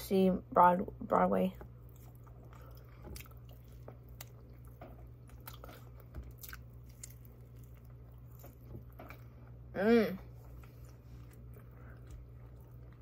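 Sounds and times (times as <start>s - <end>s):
low steady hum: 0.0s - 13.0s
chewing food: 1.5s - 9.7s, 10.3s - 13.0s.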